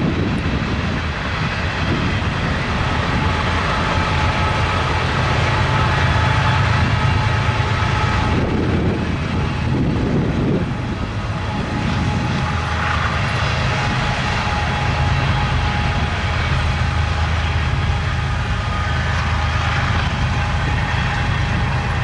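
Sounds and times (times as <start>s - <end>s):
locomotive engine drone: 0.0s - 22.0s
train wheel and rail noise: 0.0s - 22.0s.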